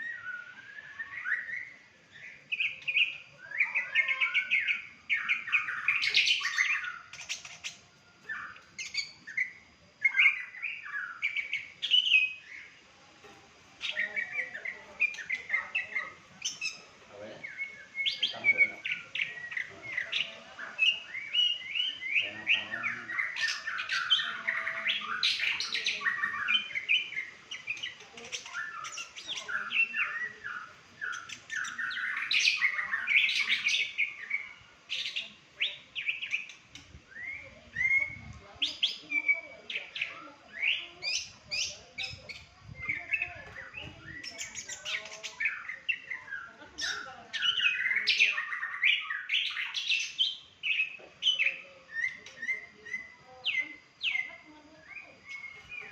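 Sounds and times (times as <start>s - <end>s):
songbird singing: 0.0s - 55.9s.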